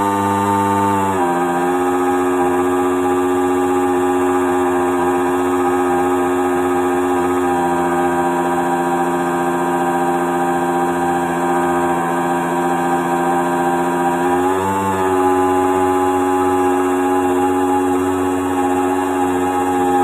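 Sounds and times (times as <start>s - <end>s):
model boat motor whine: 0.0s - 20.0s.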